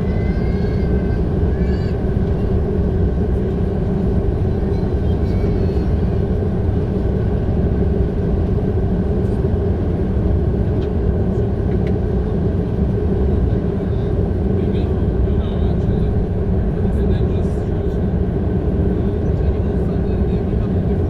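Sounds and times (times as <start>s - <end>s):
engine and airflow roar: 0.0s - 21.0s.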